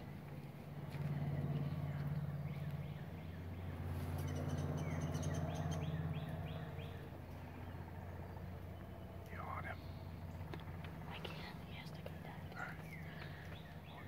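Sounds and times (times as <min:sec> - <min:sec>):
songbird singing: 0:00.0 - 0:14.0
steady low hum: 0:00.0 - 0:14.0.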